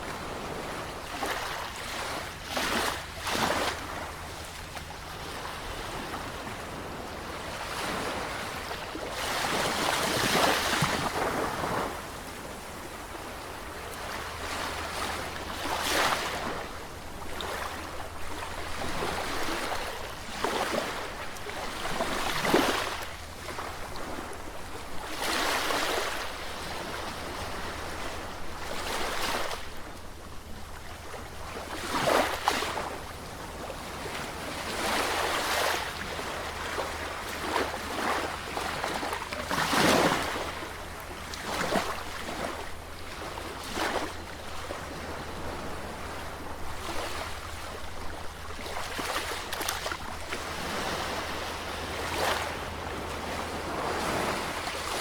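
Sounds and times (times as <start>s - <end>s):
sea waves surging and washing: 0.0s - 55.0s.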